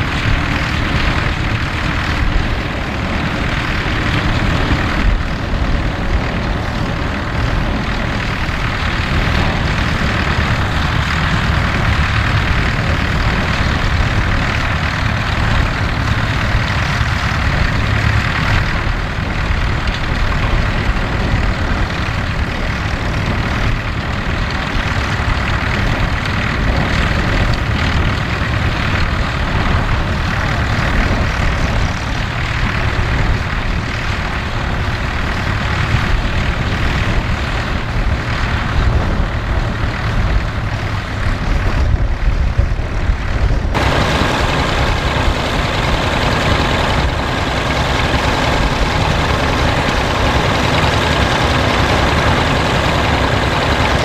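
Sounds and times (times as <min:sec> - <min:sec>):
other tractor engines: 0:00.0 - 0:54.0
tractor engine running: 0:00.0 - 0:54.0.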